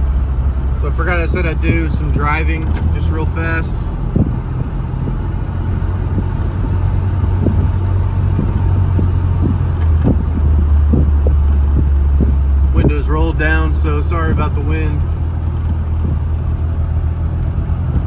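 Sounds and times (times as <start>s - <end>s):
car engine running: 0.0s - 18.0s
wind rushing through windows: 0.0s - 18.0s.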